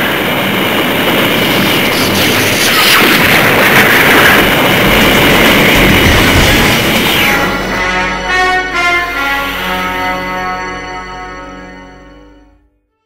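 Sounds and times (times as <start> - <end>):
booming and rumbling noise: 0.0 - 11.5.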